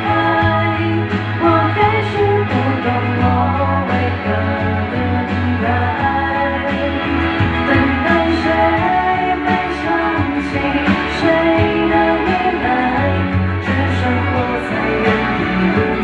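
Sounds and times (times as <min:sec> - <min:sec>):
live pop ballad band: 0:00.0 - 0:16.0
steady bass line: 0:00.0 - 0:16.0.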